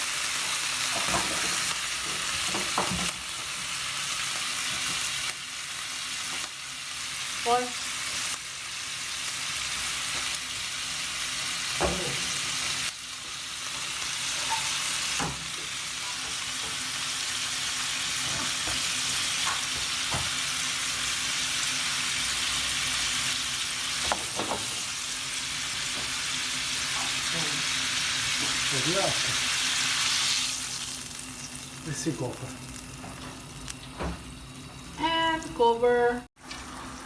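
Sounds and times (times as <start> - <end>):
chicken sizzling in hot oil: 0.0 - 35.1.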